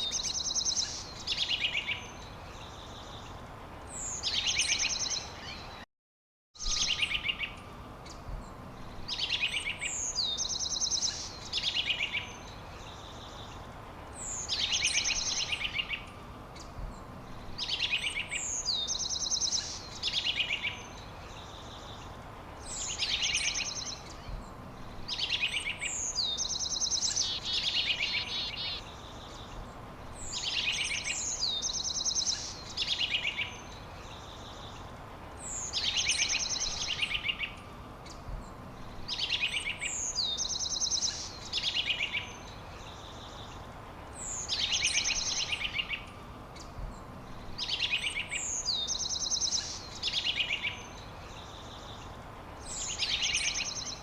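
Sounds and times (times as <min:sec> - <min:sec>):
background hiss: 0:00.0 - 0:05.8, 0:06.6 - 0:54.0
songbird singing: 0:00.0 - 0:05.9, 0:06.6 - 0:54.0
faint steady hum: 0:06.7 - 0:54.0.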